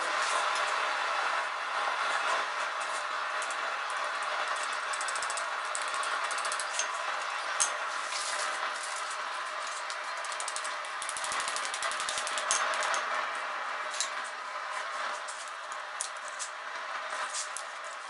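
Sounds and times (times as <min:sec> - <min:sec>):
workshop tool running: 0:00.0 - 0:18.0.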